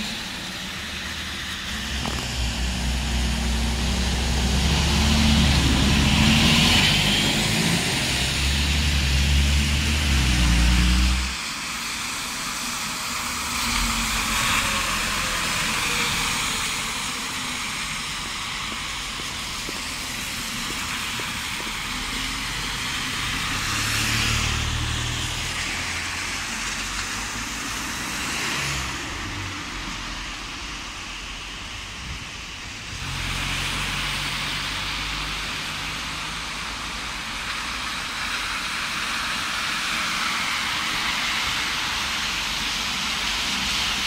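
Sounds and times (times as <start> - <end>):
close engine rumble: 0.0 - 44.0
passing buses and cars: 0.0 - 44.0
tyres hissing on wet road: 0.0 - 44.0.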